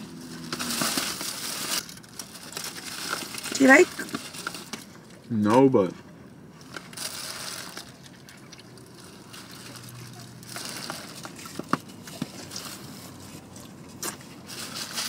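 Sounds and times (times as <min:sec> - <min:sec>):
plastic bag and foil crinkling: 0:00.0 - 0:05.6, 0:06.6 - 0:15.0.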